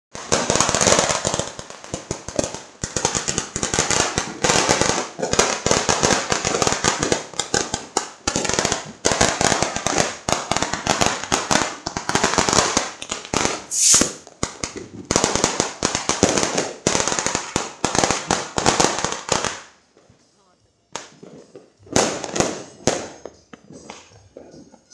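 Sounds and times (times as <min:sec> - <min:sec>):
firecrackers banging and crackling: 0:00.1 - 0:20.3, 0:20.9 - 0:24.9.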